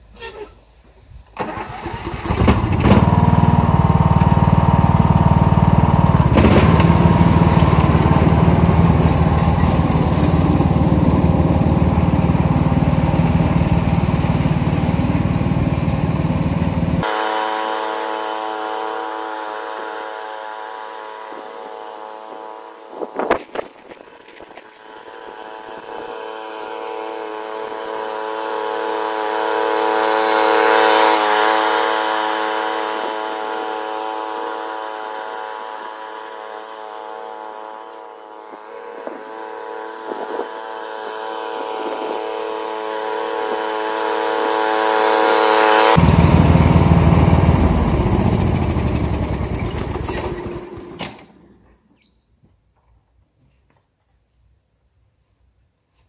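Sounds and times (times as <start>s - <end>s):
riding lawn mower engine: 1.3s - 51.7s.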